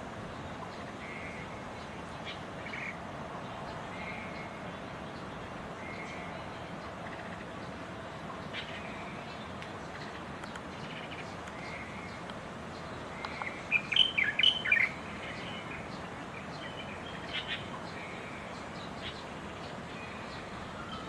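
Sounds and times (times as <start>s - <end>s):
steady background noise: 0.0s - 21.0s
bird chirping: 3.6s - 21.0s.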